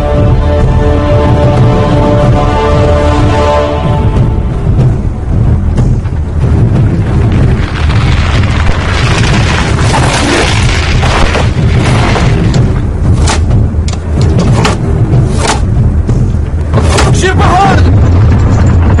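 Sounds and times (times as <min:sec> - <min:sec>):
deep continuous rumble: 0:00.0 - 0:19.0.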